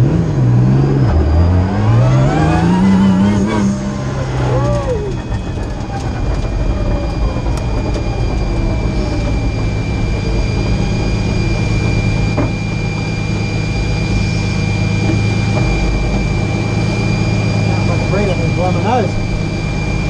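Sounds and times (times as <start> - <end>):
car engine idling: 0.0 - 20.0
thin high whine: 0.6 - 20.0.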